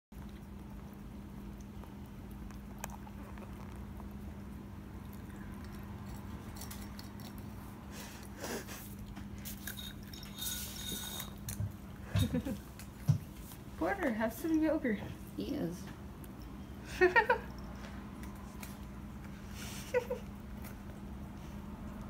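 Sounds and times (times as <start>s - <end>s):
cat licking and eating: 0.1s - 15.4s, 16.0s - 22.0s.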